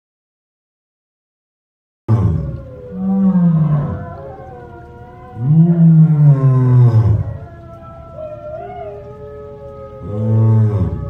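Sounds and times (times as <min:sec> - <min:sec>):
lion roaring: 0:02.1 - 0:11.0.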